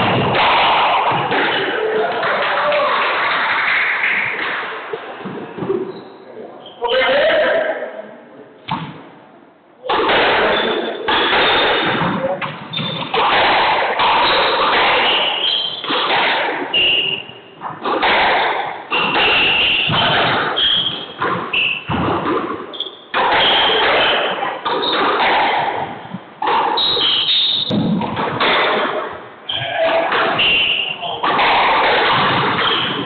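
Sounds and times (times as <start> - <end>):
squash balls thudding off walls: 0.0 - 5.9, 9.9 - 33.0.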